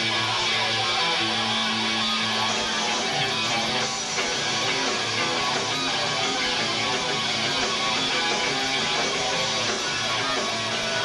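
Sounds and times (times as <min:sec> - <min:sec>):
live rock band playing: 0:00.0 - 0:11.0
strummed electric guitar: 0:00.0 - 0:11.0.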